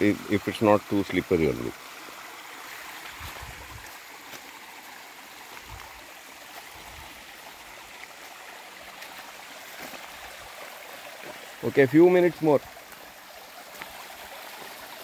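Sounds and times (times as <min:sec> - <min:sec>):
forest stream running: 0:00.0 - 0:15.0
footsteps on stream bank: 0:00.9 - 0:15.0.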